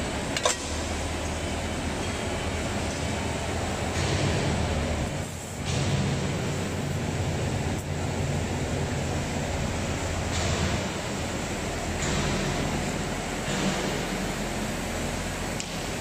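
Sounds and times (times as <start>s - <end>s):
industrial machinery hum and hiss: 0.0s - 16.0s.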